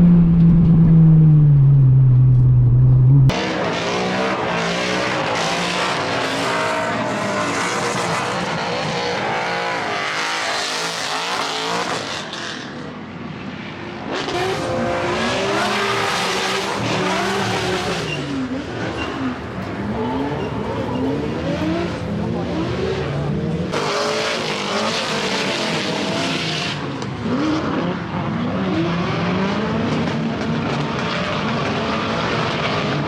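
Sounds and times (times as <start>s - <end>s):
racing car engine revving: 0.0s - 12.8s, 14.0s - 33.0s.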